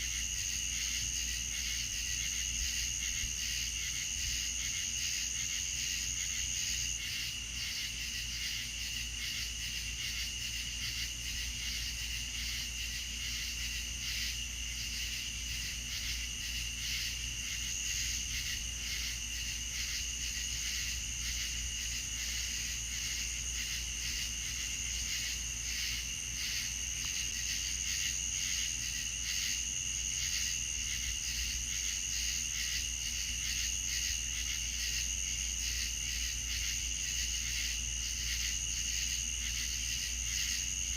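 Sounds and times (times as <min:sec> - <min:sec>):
crickets and insects trilling: 0:00.0 - 0:40.9.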